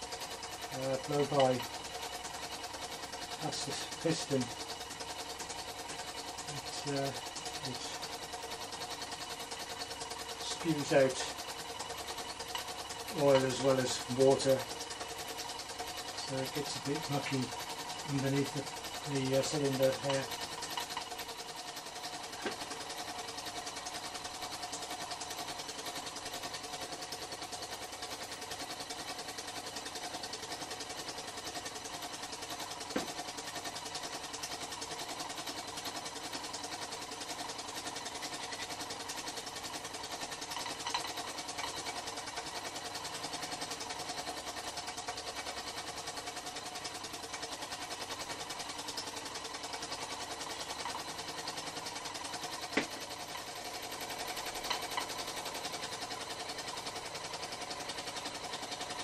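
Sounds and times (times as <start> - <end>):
model steam engine running: 0.0 - 59.0.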